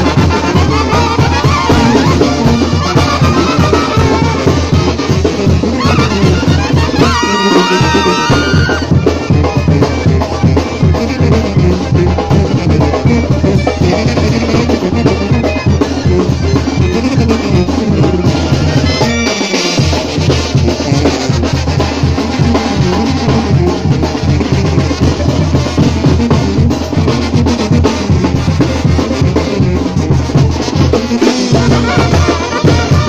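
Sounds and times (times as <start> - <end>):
bass drum beat: 0.0 - 33.0
brass band playing: 0.0 - 33.0
snare drum: 0.0 - 33.0.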